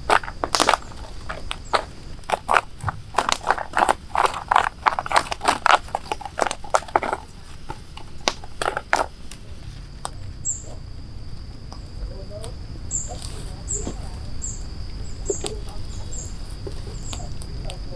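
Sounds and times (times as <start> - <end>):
grass rustling: 0.0 - 17.9.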